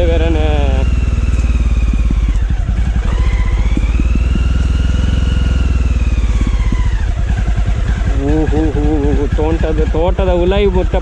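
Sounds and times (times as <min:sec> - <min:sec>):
high engine whine: 0:00.0 - 0:11.0
motorcycle engine running: 0:00.0 - 0:11.0.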